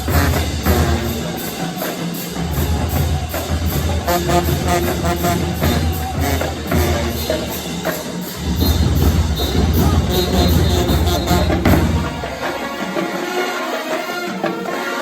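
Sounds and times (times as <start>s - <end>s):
music with drums and percussion: 0.0s - 15.0s.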